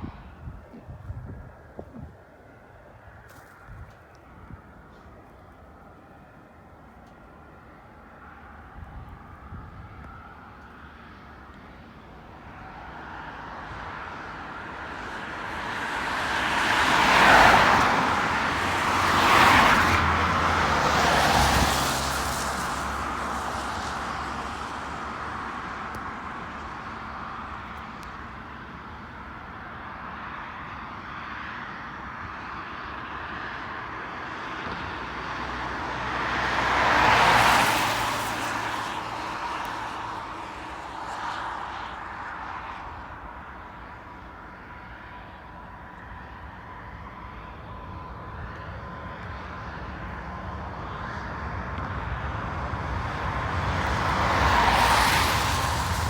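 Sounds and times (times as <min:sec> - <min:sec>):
road vehicles passing: 0:00.0 - 0:56.0.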